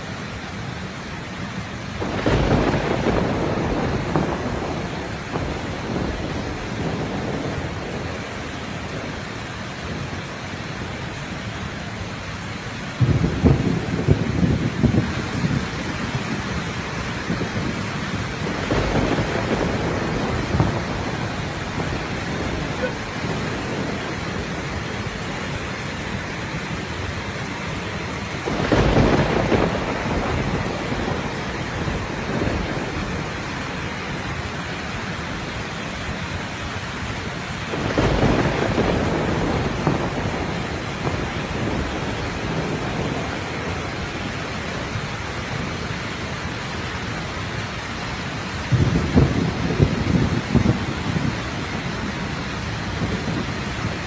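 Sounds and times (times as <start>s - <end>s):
floodwater rushing: 0.0s - 54.0s
heavy rain: 0.0s - 54.0s.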